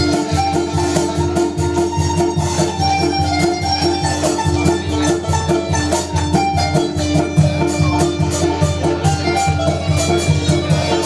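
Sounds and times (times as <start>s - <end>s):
low rhythmic accompaniment: 0.0s - 11.0s.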